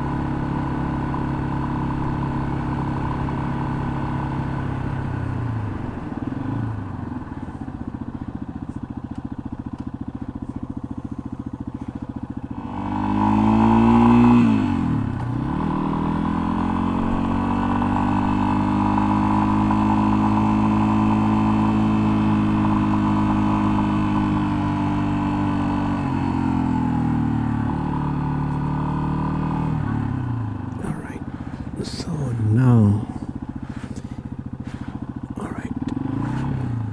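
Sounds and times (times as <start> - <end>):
motorcycle engine: 0.0 - 36.9.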